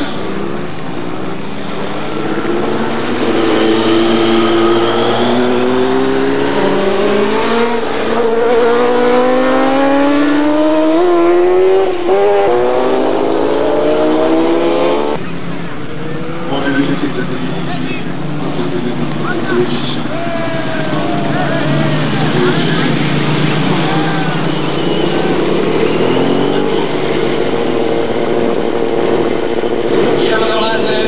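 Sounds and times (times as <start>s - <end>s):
motorcycle engines at high revs: 0.0s - 31.0s.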